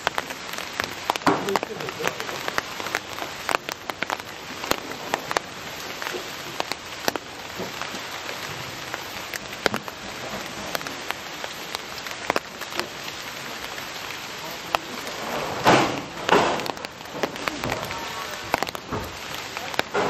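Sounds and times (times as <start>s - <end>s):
rain hissing: 0.0s - 20.0s
raindrops ticking close by: 0.0s - 20.0s.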